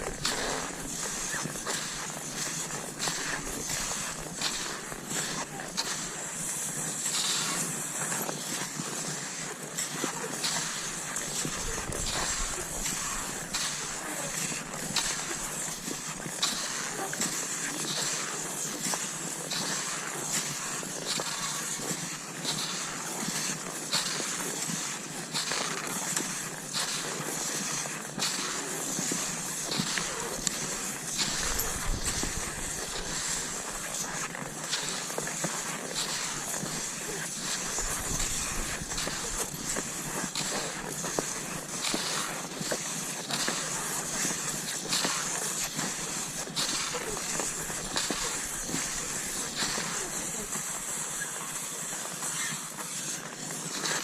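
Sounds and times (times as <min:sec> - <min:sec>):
ski pole strokes: 0:00.0 - 0:54.0
skis hissing over snow: 0:00.0 - 0:54.0.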